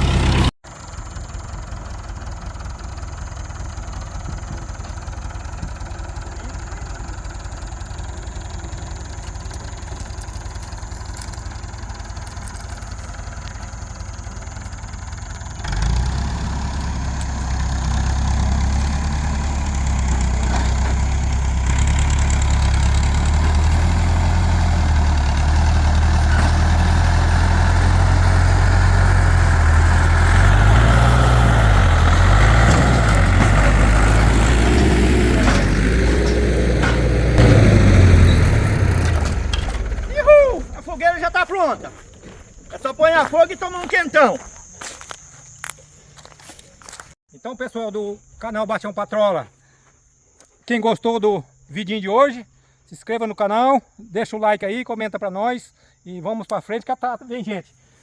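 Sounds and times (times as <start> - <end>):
tractor engine idling and revving: 0.0 - 47.2.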